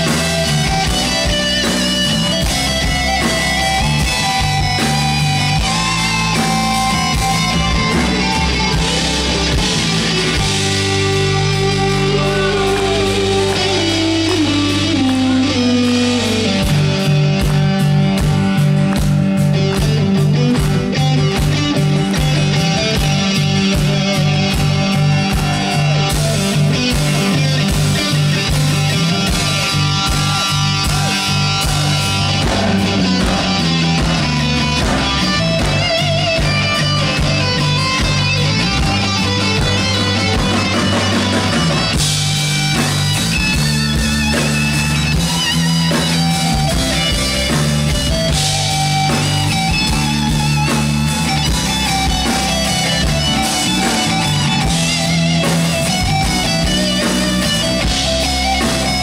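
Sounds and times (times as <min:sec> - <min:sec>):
electric guitar leading: 0:00.0 - 0:59.0
live rock band playing: 0:00.0 - 0:59.0.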